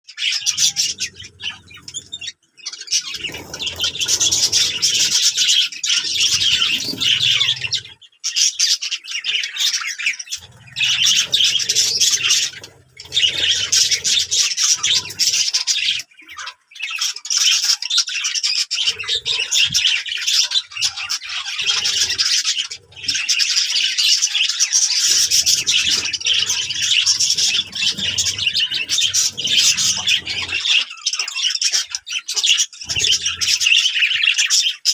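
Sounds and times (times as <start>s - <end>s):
budgerigars chattering and squawking: 0.1s - 34.9s.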